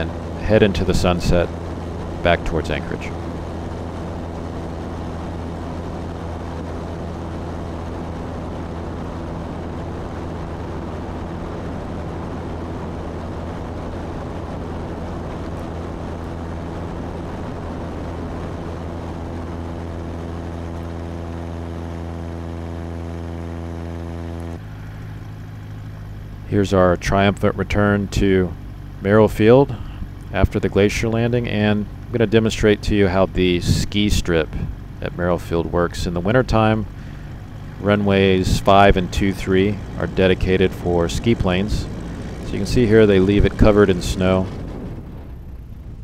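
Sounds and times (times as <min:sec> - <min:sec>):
airplane engine and propeller drone: 0:00.0 - 0:46.0.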